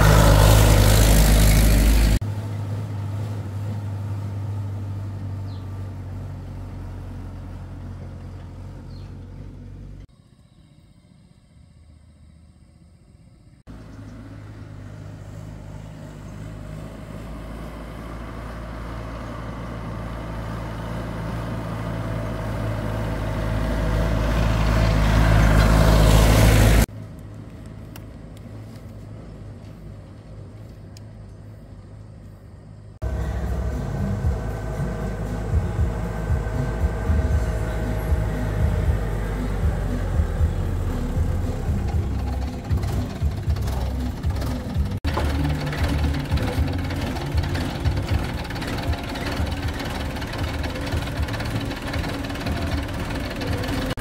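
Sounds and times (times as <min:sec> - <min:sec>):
truck engine running: 0:00.0 - 0:10.1, 0:13.7 - 0:54.0.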